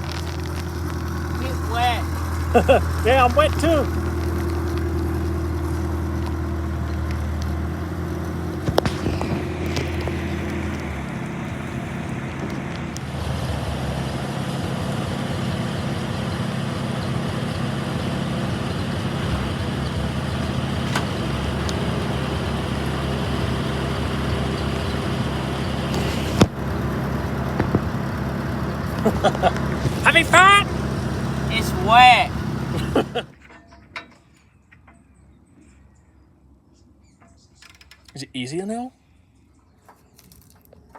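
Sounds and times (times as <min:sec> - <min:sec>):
tow tug engine running: 0:00.0 - 0:35.0.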